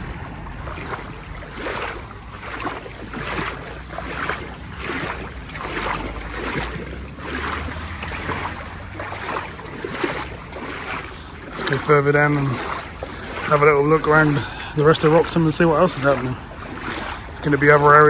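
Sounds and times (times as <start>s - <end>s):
wading through water: 0.0s - 18.0s
wind rumble on microphone: 0.0s - 18.0s.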